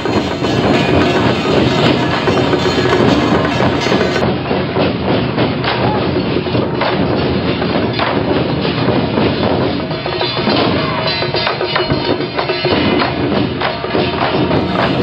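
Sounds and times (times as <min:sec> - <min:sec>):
procession percussion din: 0:00.0 - 0:04.2, 0:06.1 - 0:15.0.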